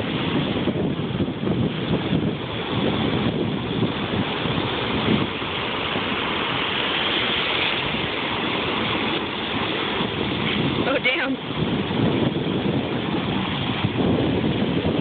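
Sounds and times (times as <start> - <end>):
jet ski engine: 0.0 - 15.0
water spray rushing: 0.0 - 15.0.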